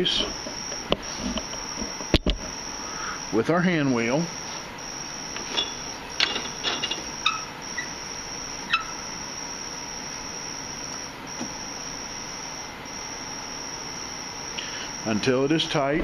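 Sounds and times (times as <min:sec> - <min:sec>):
high-pitched whine: 0:00.0 - 0:16.0.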